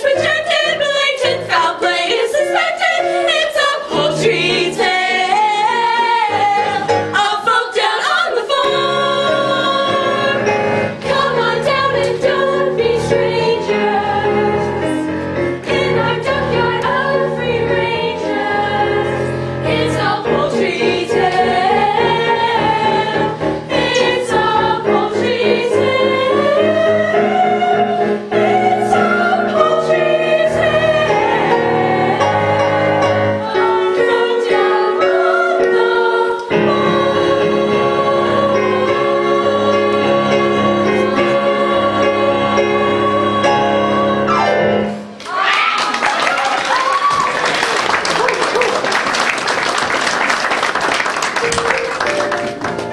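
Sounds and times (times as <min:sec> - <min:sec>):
instrumental accompaniment: 0:00.0 - 0:45.3.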